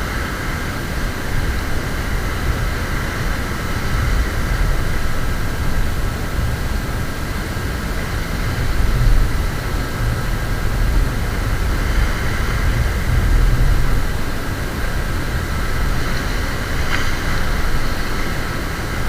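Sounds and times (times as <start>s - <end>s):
surf on a beach: 0.0s - 19.0s
wind rumbling on microphone: 0.0s - 19.0s.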